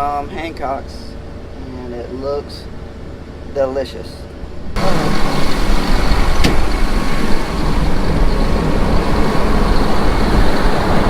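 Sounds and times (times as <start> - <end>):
road noise: 0.0 - 11.0
vehicle engine: 0.0 - 11.0.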